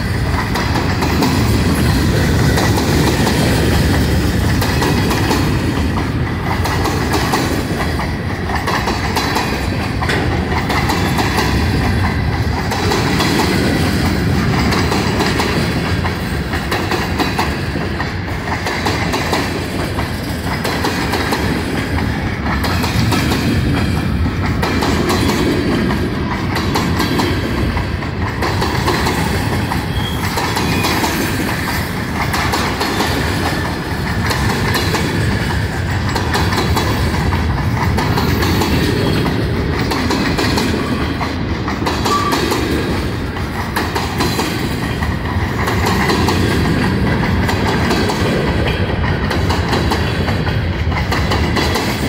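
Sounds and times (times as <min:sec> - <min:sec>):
wheels clacking over rail joints: 0:00.0 - 0:52.0.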